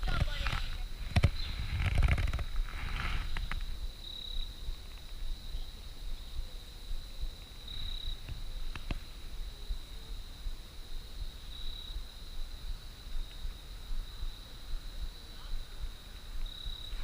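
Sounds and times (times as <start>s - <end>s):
insect high-pitched trill: 0.0s - 17.0s.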